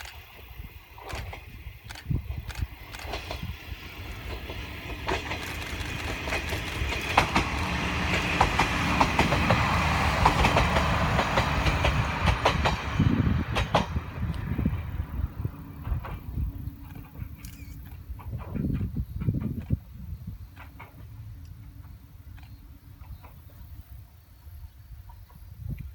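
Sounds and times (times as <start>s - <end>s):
wheels clicking over rail joints: 0.0s - 23.9s
diesel railcar rumble: 0.0s - 25.8s.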